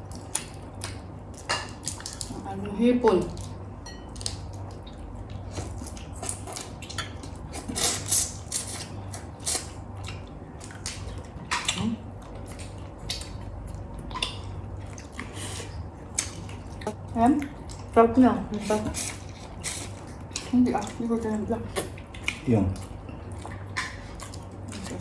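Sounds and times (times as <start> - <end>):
chewing food: 0.0 - 25.0
steady low hum: 0.0 - 25.0.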